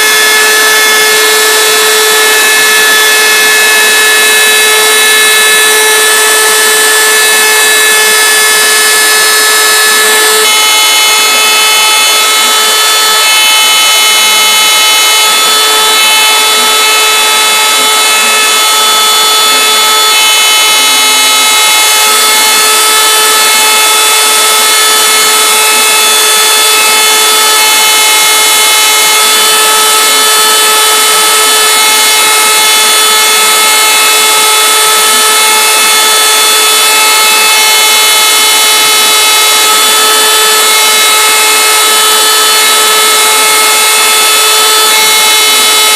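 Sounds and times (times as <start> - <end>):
router spindle high-pitched whine: 0.0 - 45.9.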